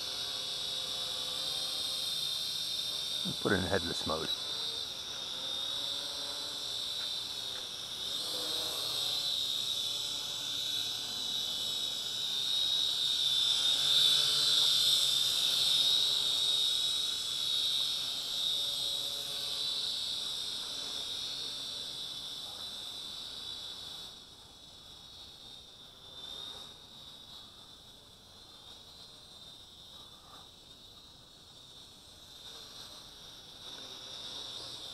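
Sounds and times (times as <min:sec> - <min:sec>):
toy drone propellers whining: 0:00.0 - 0:34.9.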